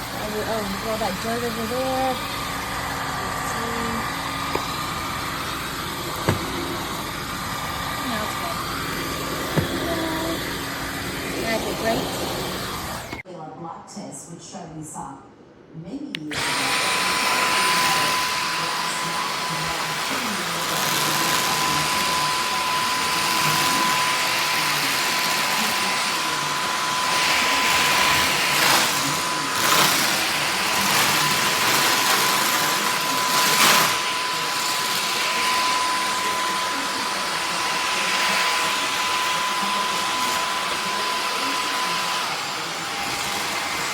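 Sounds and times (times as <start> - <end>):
vacuum cleaner whining: 0.0 - 13.3, 16.2 - 43.9.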